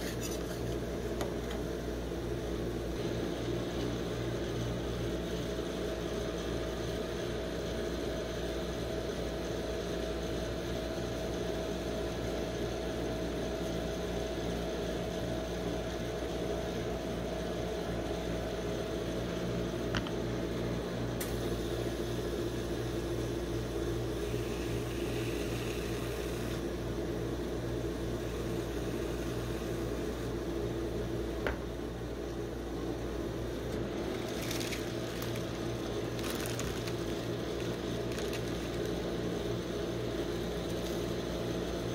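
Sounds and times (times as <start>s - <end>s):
refrigeration machine humming: 0.0s - 41.9s.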